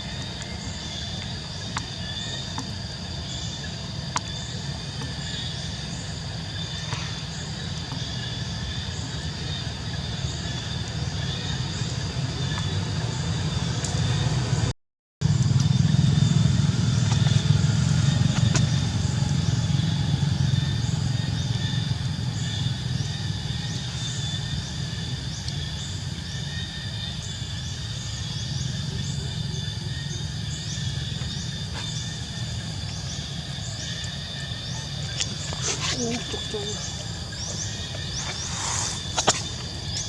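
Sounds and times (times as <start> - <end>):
low engine-like rumble: 0.0 - 40.0.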